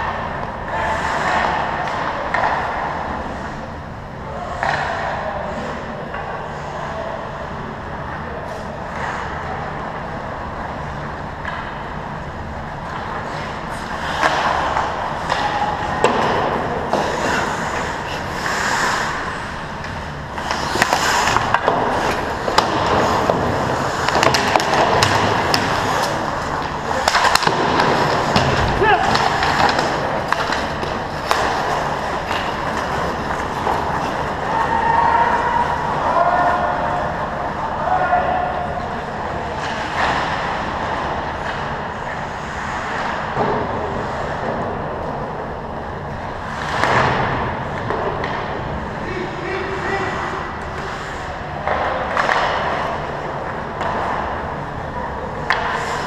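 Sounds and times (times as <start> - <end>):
hockey sticks and puck clacking: 0.0 - 3.7, 4.3 - 56.0
skates scraping on ice: 0.0 - 3.7, 12.9 - 38.2, 38.8 - 56.0.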